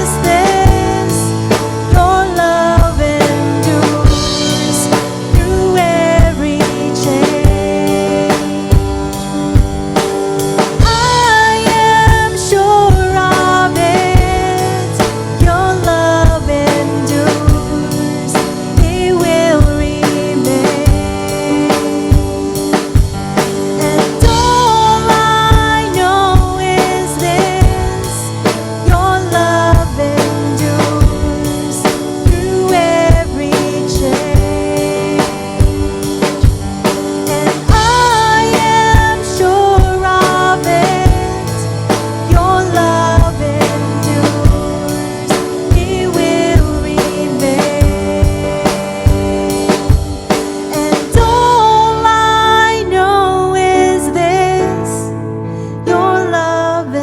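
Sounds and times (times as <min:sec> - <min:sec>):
drum kit beat: 0:00.0 - 0:52.7
person singing: 0:00.0 - 0:57.0
worship band playing: 0:00.0 - 0:57.0.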